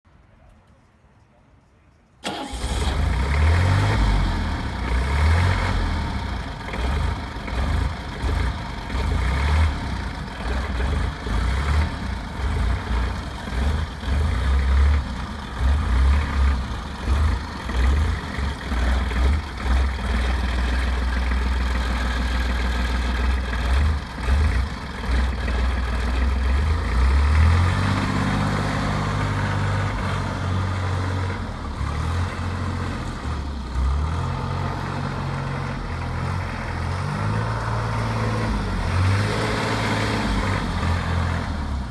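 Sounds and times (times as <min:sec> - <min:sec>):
truck engine running: 0:02.2 - 0:41.9.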